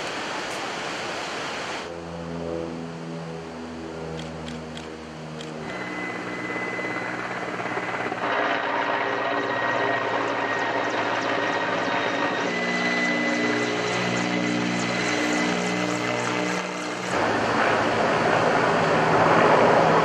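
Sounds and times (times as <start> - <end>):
aircraft engine drone: 0.0 - 20.0
steady high whine: 0.0 - 20.0.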